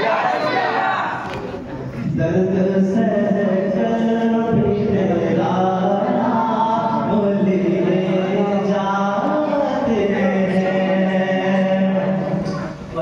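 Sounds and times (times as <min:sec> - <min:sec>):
man singing into a microphone: 0:02.0 - 0:13.0.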